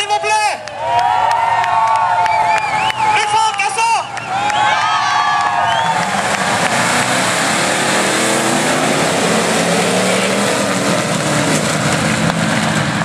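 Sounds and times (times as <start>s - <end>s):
several car engines racing: 2.3s - 13.0s.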